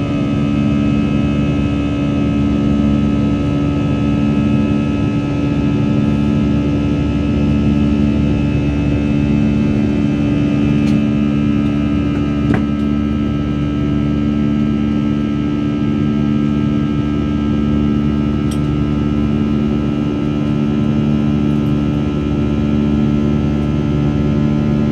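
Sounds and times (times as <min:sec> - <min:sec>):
jet engines droning in cabin: 0:00.0 - 0:24.9.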